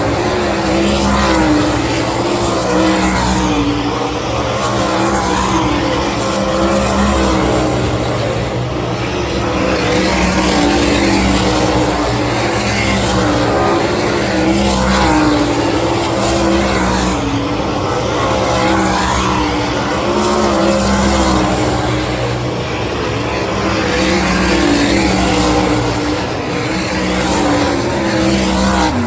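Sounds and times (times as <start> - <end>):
engine revving on dirt track: 0.0 - 29.0.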